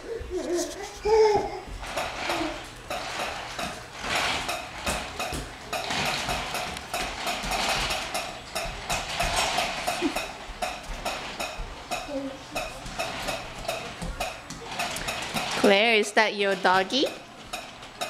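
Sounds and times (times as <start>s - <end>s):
small mechanism clicking and rattling: 1.8s - 18.0s.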